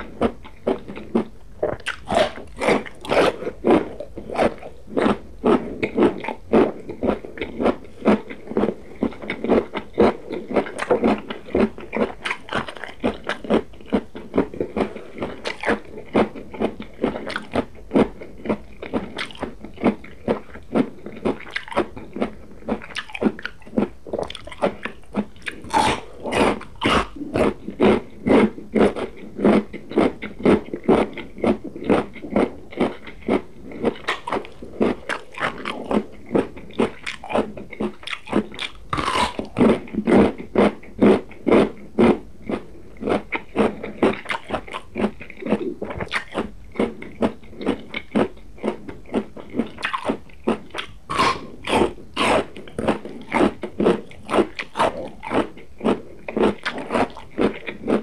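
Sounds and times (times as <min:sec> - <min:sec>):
crunching raw vegetables: 0:00.0 - 0:58.0.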